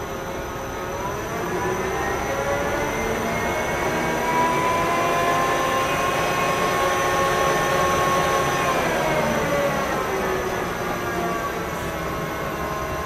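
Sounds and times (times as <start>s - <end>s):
lathe mechanical whine: 0.0s - 13.0s.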